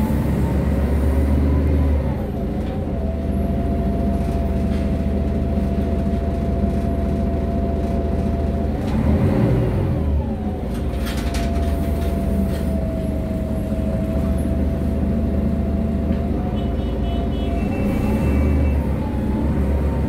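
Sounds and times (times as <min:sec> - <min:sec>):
bus diesel drone: 0:00.0 - 0:20.0.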